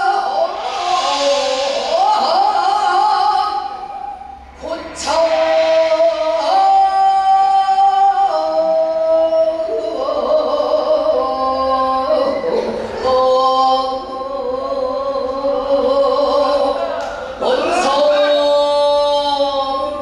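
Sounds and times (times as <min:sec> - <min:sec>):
person singing long notes: 0:00.0 - 0:20.0.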